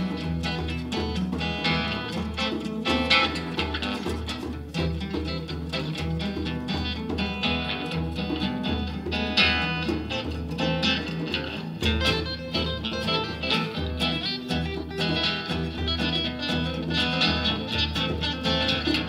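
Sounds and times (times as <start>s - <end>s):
plucked guitar: 0.0s - 19.0s.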